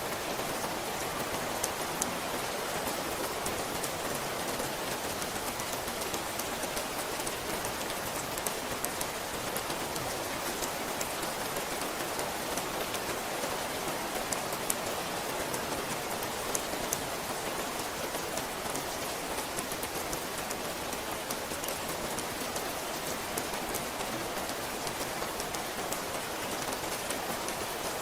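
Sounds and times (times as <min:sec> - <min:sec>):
rain pattering on a surface: 0:00.0 - 0:28.0.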